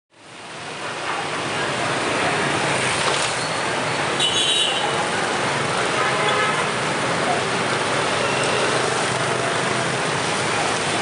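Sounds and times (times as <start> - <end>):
traffic on a wet road: 0.1 - 11.0.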